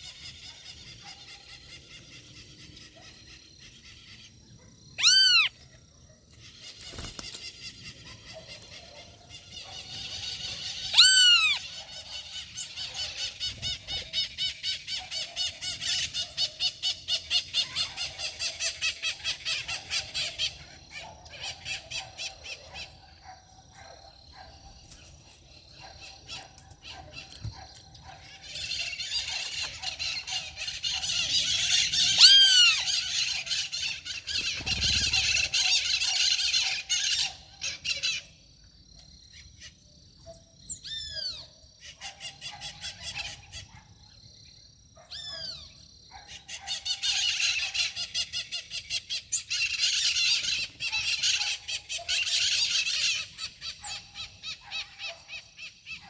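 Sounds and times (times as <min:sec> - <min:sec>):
birds calling and chattering: 0:00.0 - 0:38.4, 0:39.3 - 0:44.1, 0:45.2 - 0:56.0.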